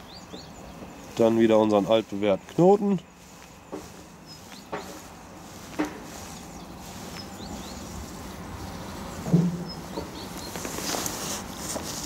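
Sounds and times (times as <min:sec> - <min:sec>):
small bird chirping: 0:00.0 - 0:11.4.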